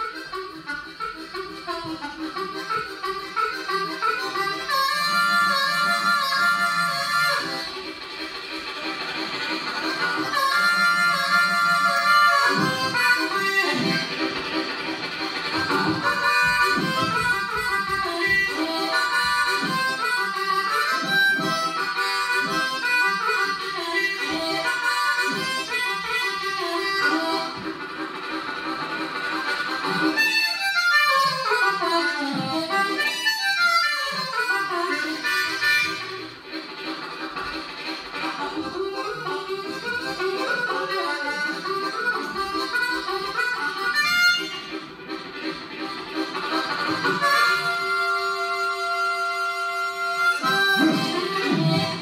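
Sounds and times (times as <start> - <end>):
harmonica playing blues: 0.0 - 52.0.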